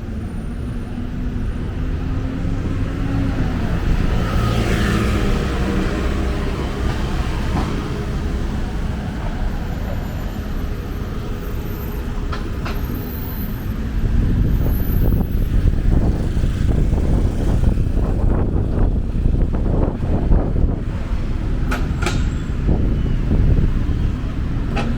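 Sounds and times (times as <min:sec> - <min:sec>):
city traffic rumble: 0:00.0 - 0:24.9.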